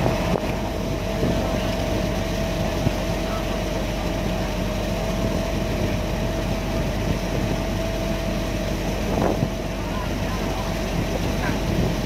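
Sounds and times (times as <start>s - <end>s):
constant hum: 0.0s - 12.0s
ferry engine rumbling: 0.0s - 12.0s.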